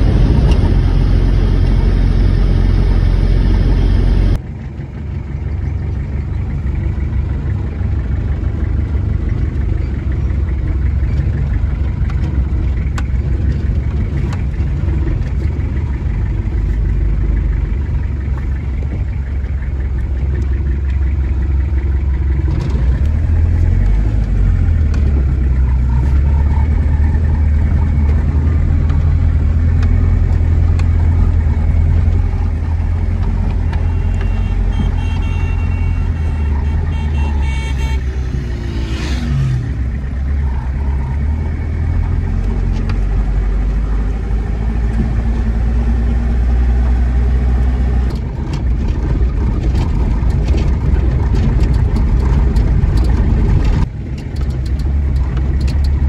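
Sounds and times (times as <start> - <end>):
low engine drone: 0.0 - 56.0
road noise: 0.0 - 56.0.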